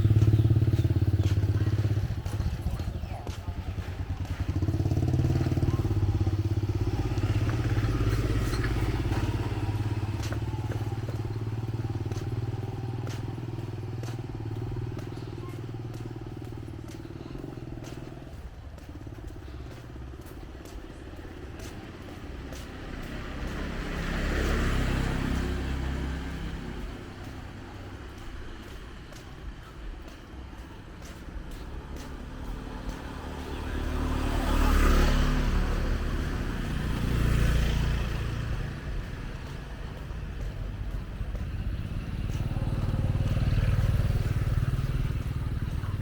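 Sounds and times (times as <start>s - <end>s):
small motorcycle engines running: 0.0s - 46.0s.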